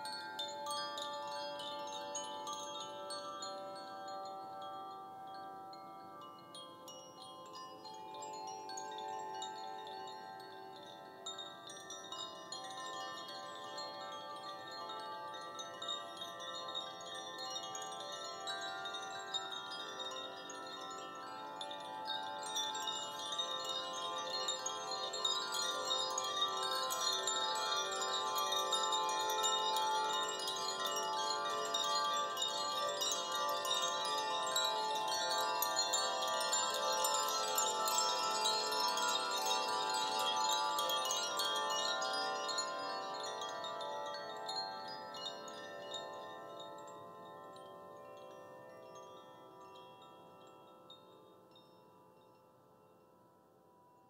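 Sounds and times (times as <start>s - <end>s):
wind chimes ringing: 0.0s - 54.0s.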